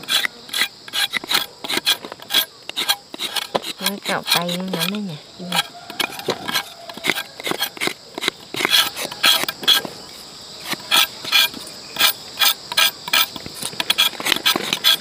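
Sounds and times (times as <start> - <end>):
machete scraping peel off root: 0.0 - 15.0.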